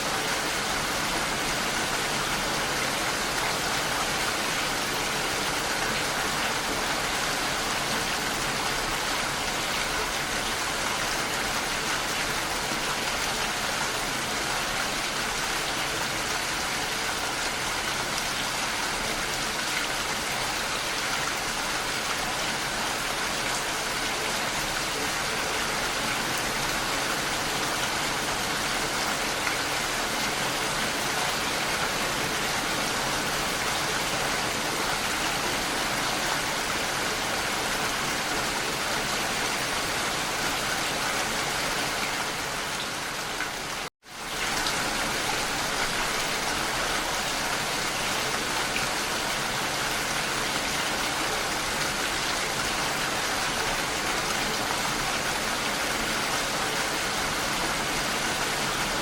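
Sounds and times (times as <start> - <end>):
rain pattering: 0.1 - 59.0.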